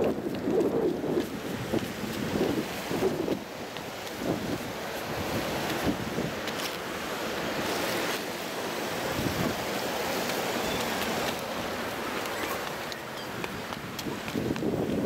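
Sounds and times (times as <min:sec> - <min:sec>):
river water rushing and splashing: 0:00.0 - 0:15.0.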